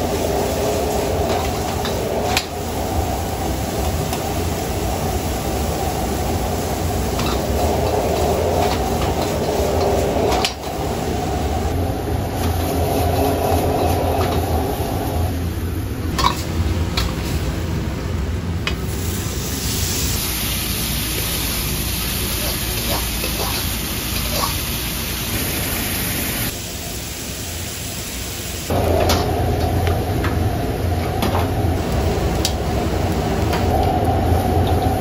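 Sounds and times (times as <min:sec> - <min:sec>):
stir-fry sizzling: 0:00.0 - 0:30.9
wok burner roaring: 0:00.0 - 0:35.0.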